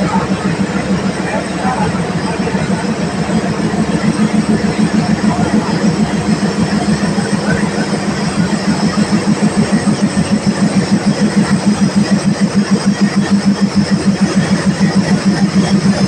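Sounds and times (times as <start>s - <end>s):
diesel locomotive engine throbbing: 0.0s - 16.0s.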